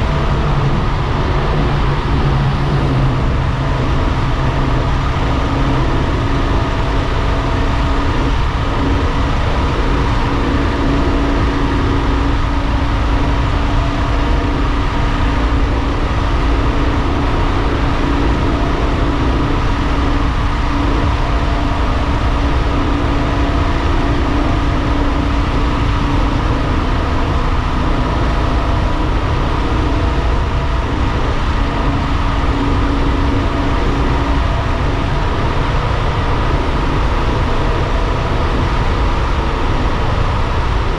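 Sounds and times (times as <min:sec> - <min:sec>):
road and wind noise: 0:00.0 - 0:40.9
vehicle engine at constant revs: 0:00.0 - 0:40.9.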